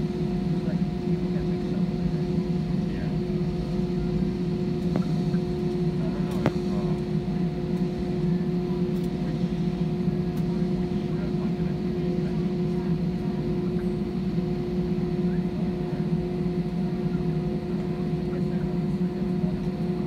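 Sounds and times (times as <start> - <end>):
constant whine: 0.0 - 20.0
jet engines rumbling at idle: 0.0 - 20.0.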